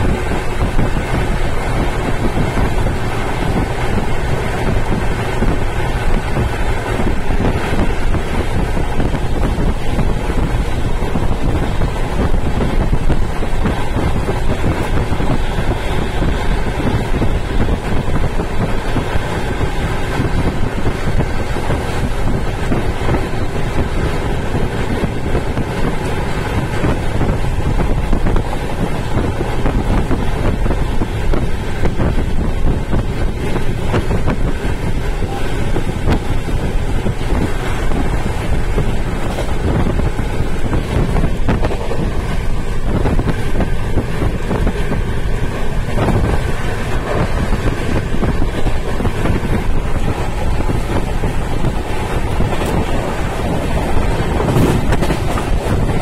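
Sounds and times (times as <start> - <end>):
train running noise: 0.0 - 56.0
wind buffeting microphone: 0.0 - 56.0
wind rushing: 0.0 - 56.0.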